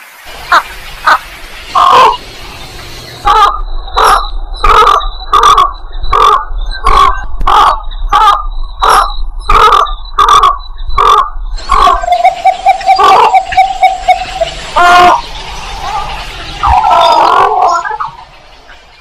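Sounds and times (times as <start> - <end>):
bird call notes: 0.5 - 18.7.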